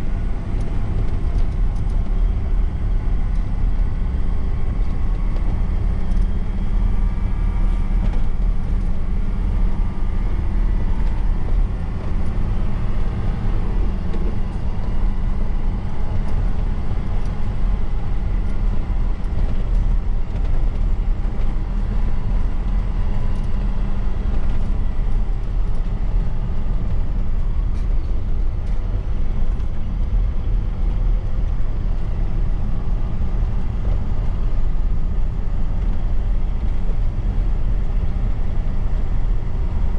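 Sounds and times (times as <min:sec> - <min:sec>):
road noise: 0:00.0 - 0:39.9
truck diesel engine rumble: 0:00.0 - 0:39.9.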